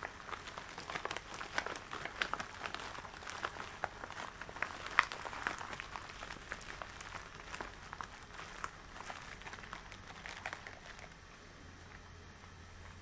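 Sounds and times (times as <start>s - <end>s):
latex gloves crackling: 0.0s - 12.0s.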